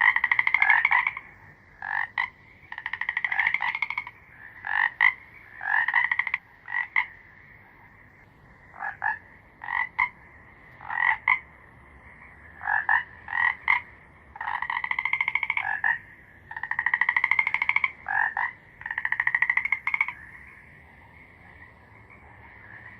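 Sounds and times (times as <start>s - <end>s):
frog croaking and trilling: 0.0s - 22.9s.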